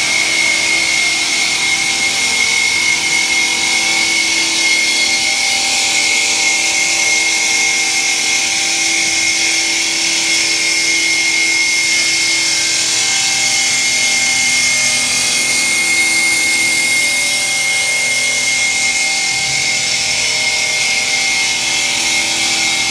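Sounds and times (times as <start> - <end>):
stone grinding machine whine: 0.0 - 22.9.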